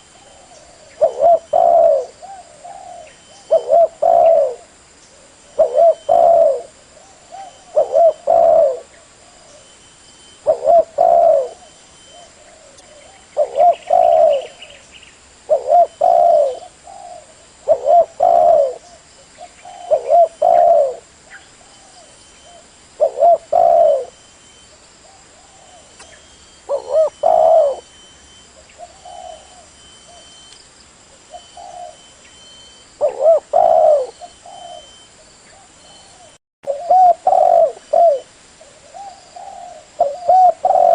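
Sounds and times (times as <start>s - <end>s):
dove cooing: 0.0s - 9.8s, 10.4s - 14.8s, 15.5s - 30.5s, 31.2s - 40.9s.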